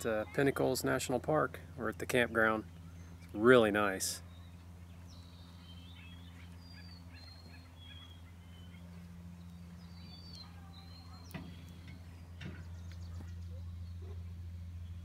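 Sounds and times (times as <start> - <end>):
faint birds chirping: 0.0 - 15.0
steady low hum: 0.0 - 15.0.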